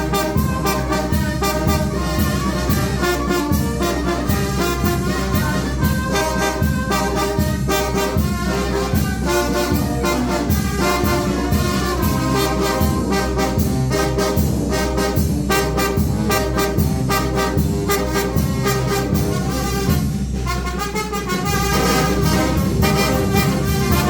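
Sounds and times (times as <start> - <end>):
brass band playing: 0.0 - 24.0
steady drum beat: 0.0 - 24.0
trumpets and trombones: 0.0 - 24.0.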